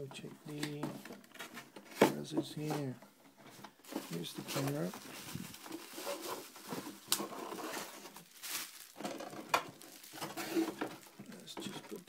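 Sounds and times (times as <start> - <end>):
packaging rustling and crinkling: 0.7 - 12.0.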